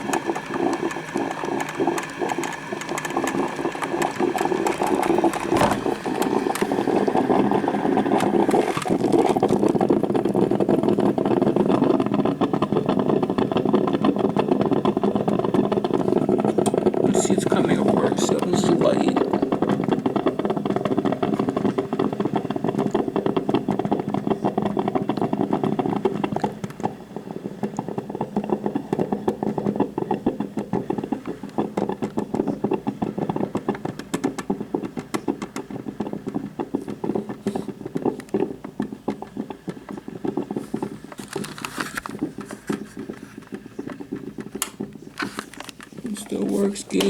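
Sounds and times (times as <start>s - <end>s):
coffee maker gurgling: 0.0s - 47.0s.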